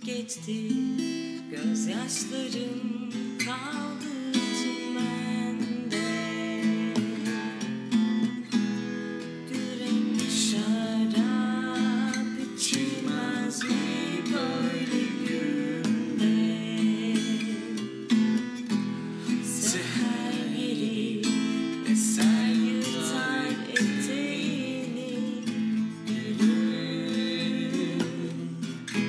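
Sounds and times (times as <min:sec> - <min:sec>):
woman singing: 0:00.0 - 0:07.9, 0:09.4 - 0:18.3, 0:19.2 - 0:29.0
acoustic guitar strumming: 0:00.0 - 0:29.0.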